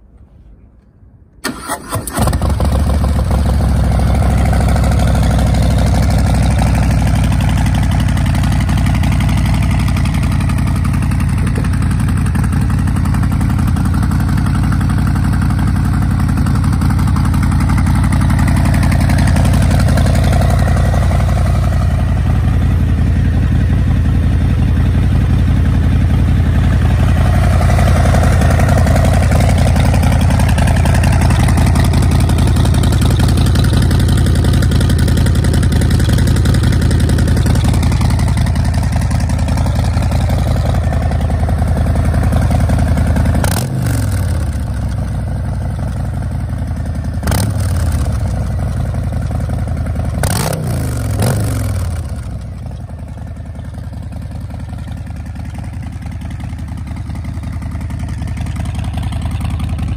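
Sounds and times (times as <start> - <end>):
motorcycle engine idling: 1.5 - 59.9.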